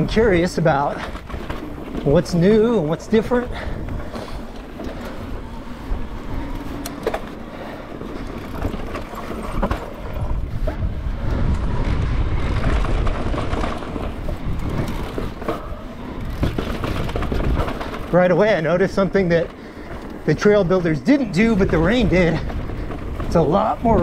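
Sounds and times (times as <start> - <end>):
bike clicks and rattles: 0.0 - 24.0
bike tyres rolling over dirt: 0.0 - 24.0
wind rumbling on microphone: 0.0 - 24.0.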